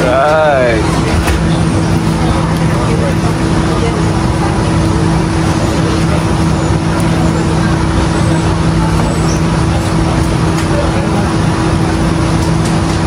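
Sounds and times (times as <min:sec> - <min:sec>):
machine drone: 0:00.0 - 0:13.0.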